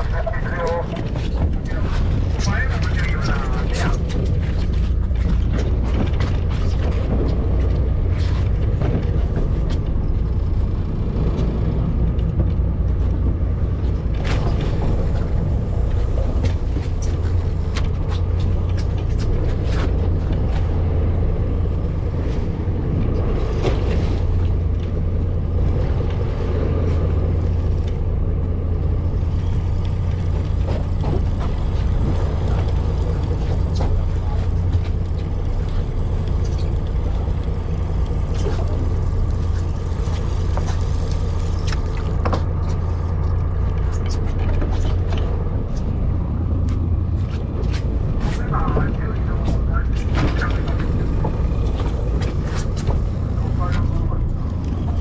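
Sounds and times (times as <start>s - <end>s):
boat engine rumbling: 0.0s - 55.0s
wind: 0.0s - 55.0s.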